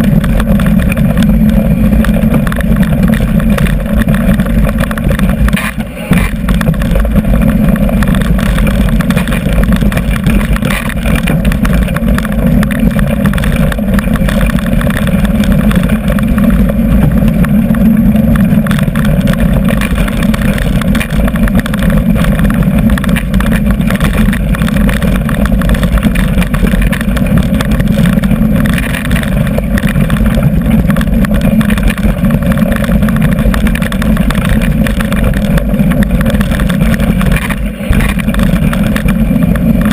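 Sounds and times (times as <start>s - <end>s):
bike tyre rumble on gravel: 0.0s - 39.9s
wind buffeting microphone: 0.0s - 39.9s.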